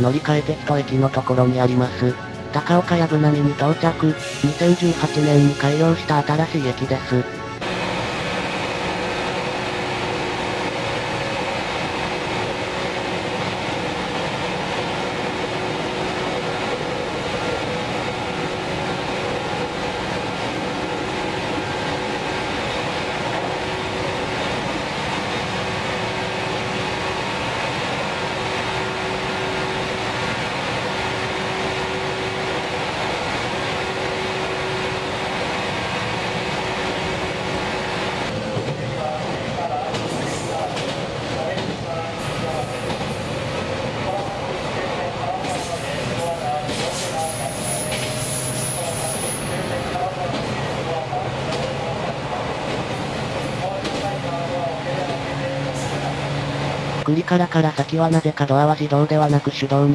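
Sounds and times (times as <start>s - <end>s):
wheel and rail running noise: 7.6s - 57.1s.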